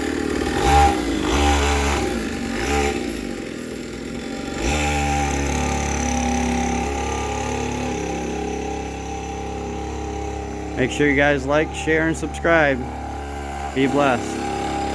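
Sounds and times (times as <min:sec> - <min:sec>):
small engine revving: 0:00.0 - 0:14.9.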